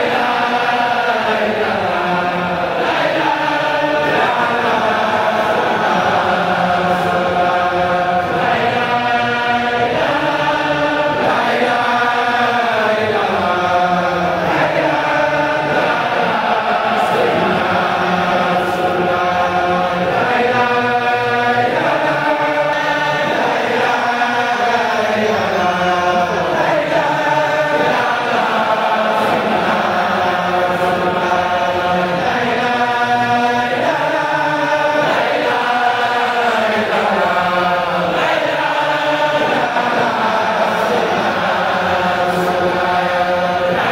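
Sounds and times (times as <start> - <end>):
men chanting in unison: 0.0 - 43.9.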